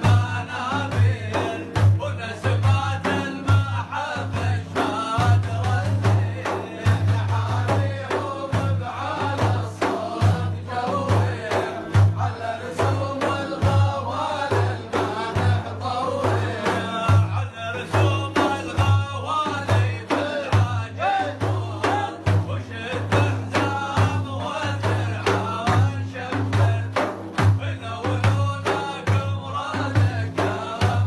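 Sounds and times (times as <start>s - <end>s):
man singing devotional song: 0.0s - 31.0s
rhythmic accompaniment with low beat: 0.0s - 31.0s.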